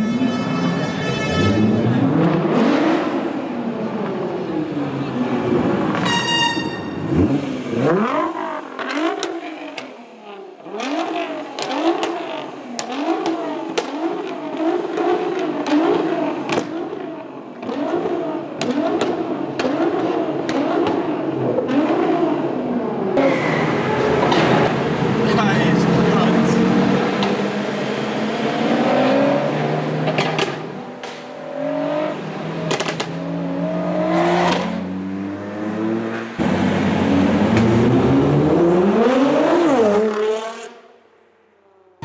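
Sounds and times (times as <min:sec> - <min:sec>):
car engine revving: 0:01.4 - 0:41.0.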